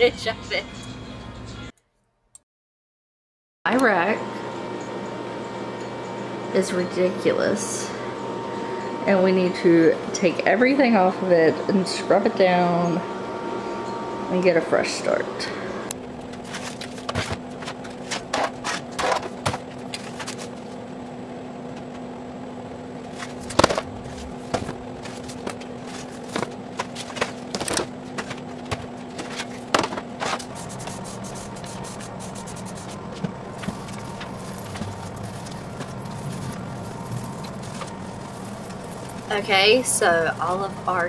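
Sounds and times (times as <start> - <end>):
steady low hum: 3.7 - 41.0.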